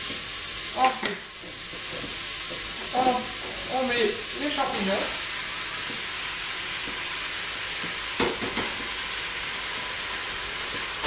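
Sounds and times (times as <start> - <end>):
food sizzling in a cooker: 0.0 - 11.0.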